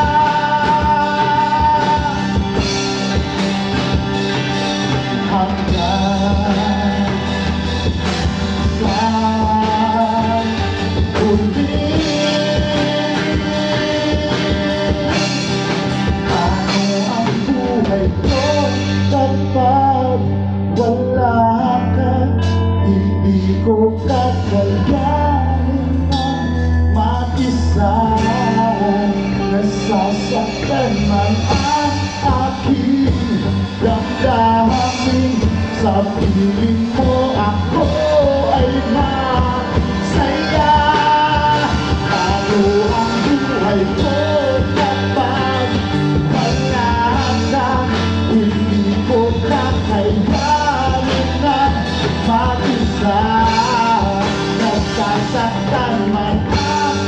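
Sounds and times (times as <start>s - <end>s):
bass guitar: 0.0s - 57.0s
drums: 0.0s - 57.0s
guitars: 0.0s - 57.0s
person singing: 0.0s - 57.0s.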